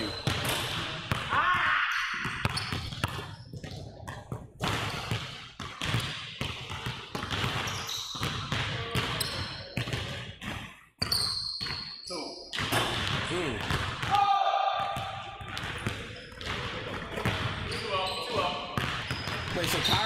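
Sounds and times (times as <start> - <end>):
basketball bouncing on wood floor: 0.2 - 11.8, 12.5 - 14.2, 14.8 - 17.7, 18.8 - 20.0.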